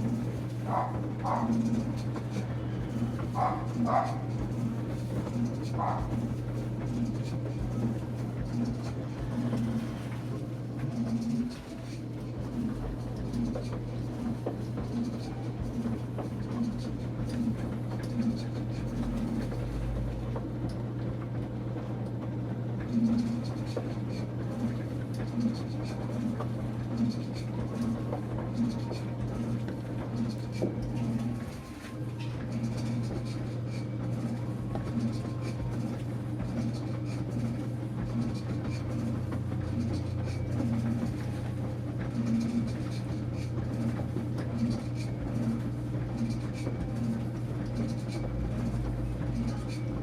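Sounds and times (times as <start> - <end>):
washing machine motor hum: 0.0 - 50.0.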